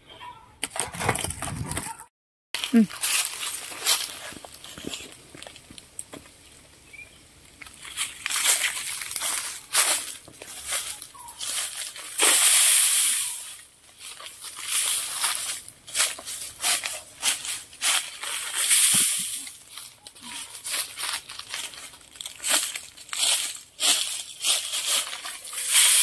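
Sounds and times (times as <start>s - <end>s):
footsteps crunching on dry leaves: 2.6s - 6.6s, 7.6s - 26.0s.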